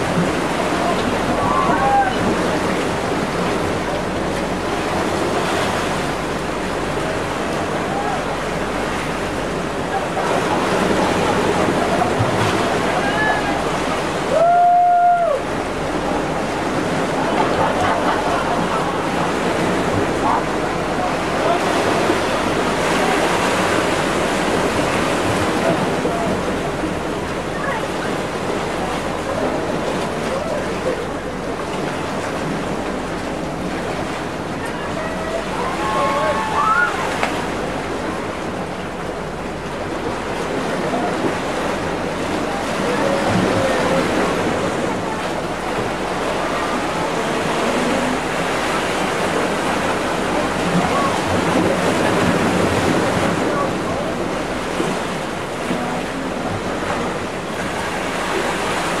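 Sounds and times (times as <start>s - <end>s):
distant voices: 0.0s - 59.0s
sea water rushing: 0.0s - 59.0s
wind: 0.0s - 59.0s.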